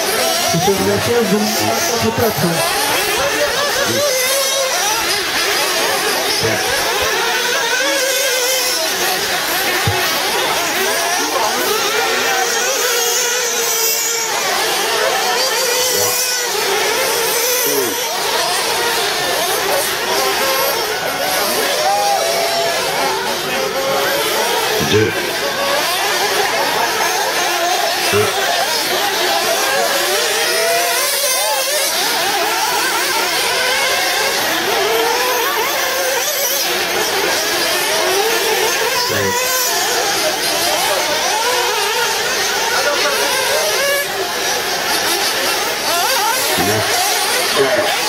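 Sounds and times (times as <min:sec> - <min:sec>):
rc car engines whining: 0:00.0 - 0:48.0.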